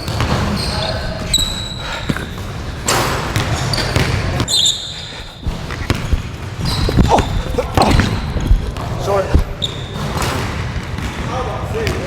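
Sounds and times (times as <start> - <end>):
basketball bouncing: 0.0 - 4.6, 5.2 - 11.3
sneakers squeaking on court: 0.0 - 12.0.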